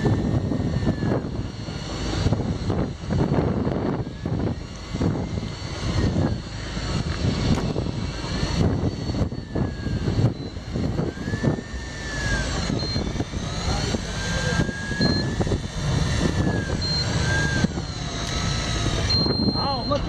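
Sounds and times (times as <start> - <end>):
boat engine droning: 0.0 - 20.0
faint high whines: 0.0 - 20.0
wind buffeting microphone: 0.0 - 20.0.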